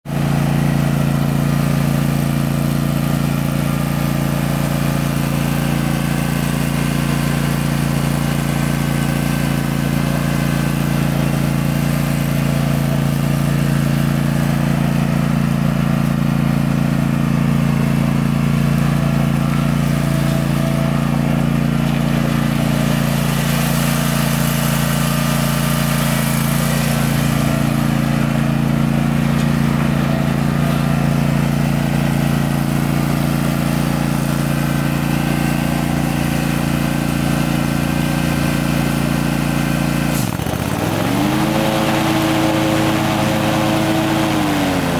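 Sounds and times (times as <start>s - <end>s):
riding mower engine running: 0.0s - 44.9s.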